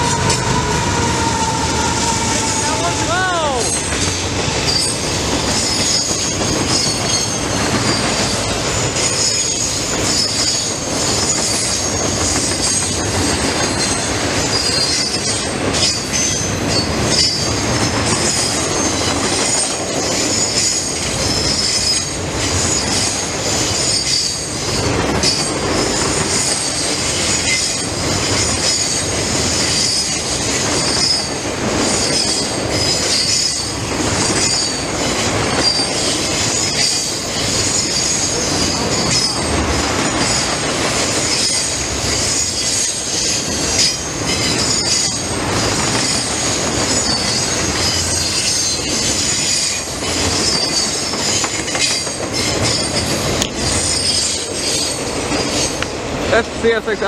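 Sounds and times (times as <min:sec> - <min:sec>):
train rumbling: 0:00.0 - 0:57.0
train wheels squealing: 0:00.0 - 0:57.0.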